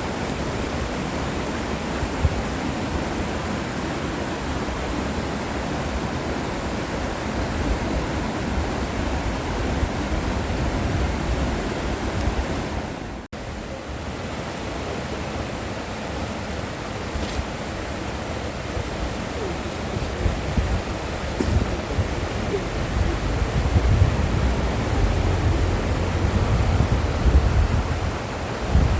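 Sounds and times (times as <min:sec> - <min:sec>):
stream rushing: 0:00.0 - 0:28.9.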